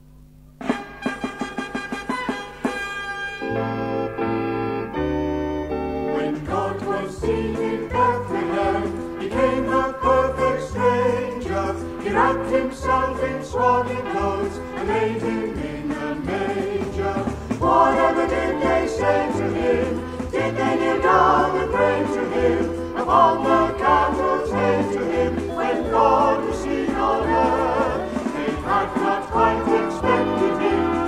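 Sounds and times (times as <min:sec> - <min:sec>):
harmonised gospel singing: 0:05.8 - 0:31.0.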